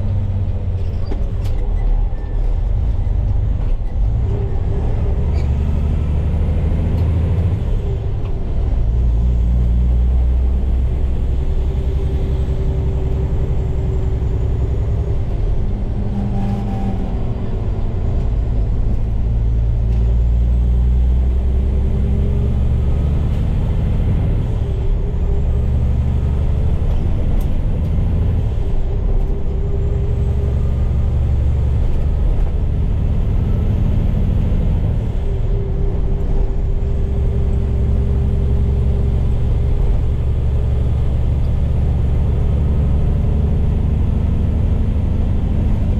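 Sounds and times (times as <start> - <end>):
diesel truck engine shifting gears: 0.0 - 45.9.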